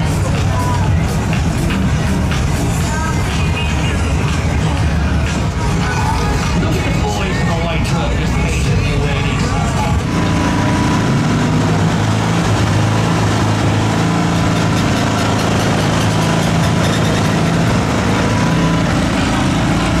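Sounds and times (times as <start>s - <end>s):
vehicle engine running steadily: 0.0s - 20.0s.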